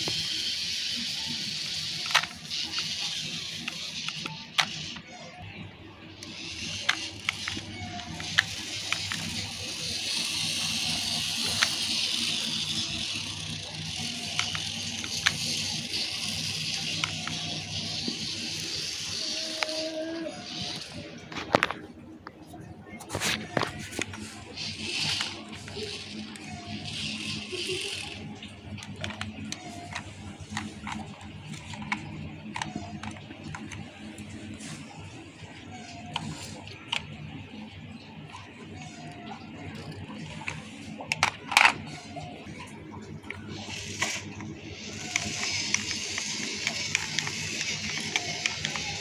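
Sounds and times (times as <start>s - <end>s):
small electric motor whirring: 0.0s - 5.2s, 6.1s - 21.3s, 23.3s - 37.6s, 43.3s - 49.0s.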